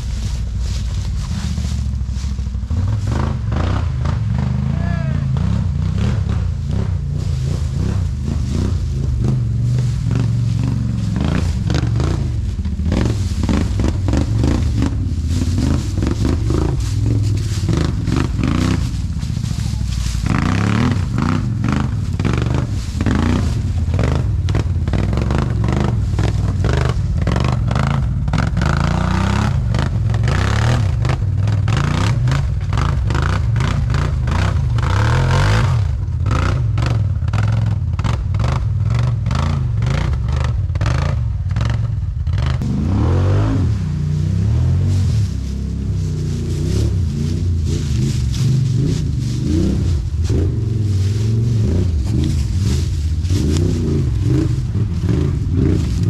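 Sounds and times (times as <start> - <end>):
quad engine revving: 0.8 - 56.0.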